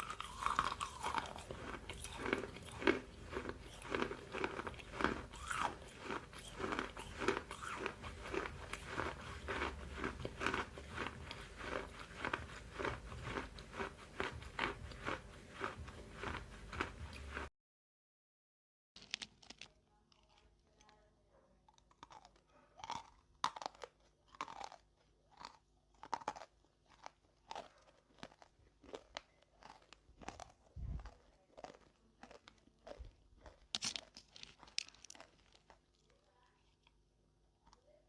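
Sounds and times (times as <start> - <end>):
crunchy chewing: 0.0 - 17.5, 21.7 - 37.0.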